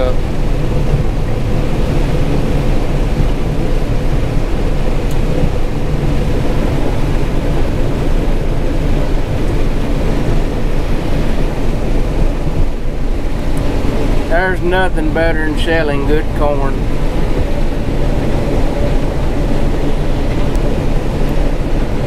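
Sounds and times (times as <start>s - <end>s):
combine harvester engine drone: 0.0s - 22.0s.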